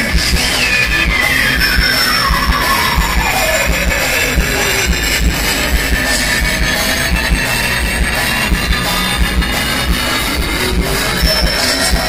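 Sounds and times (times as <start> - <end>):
drum kit steady beat: 0.0 - 12.0
electric guitars: 0.0 - 12.0.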